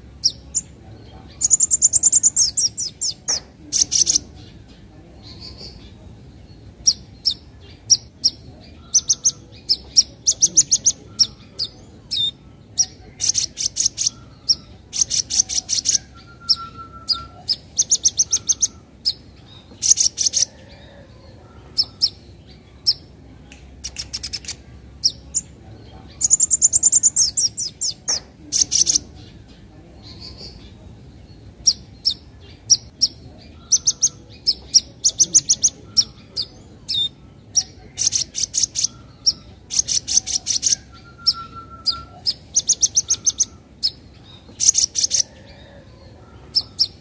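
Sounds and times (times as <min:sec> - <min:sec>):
bird chattering calls: 0:00.0 - 0:06.0, 0:06.7 - 0:20.9, 0:23.7 - 0:29.4, 0:31.6 - 0:45.7.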